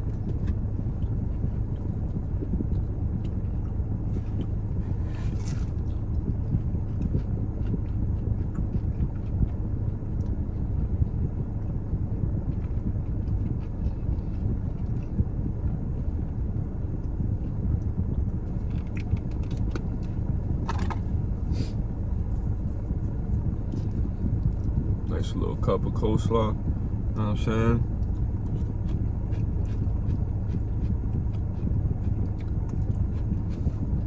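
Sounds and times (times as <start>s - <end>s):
crunchy chewing: 0.0s - 11.8s, 12.4s - 24.8s, 27.9s - 34.0s
car interior engine rumble: 0.0s - 34.0s.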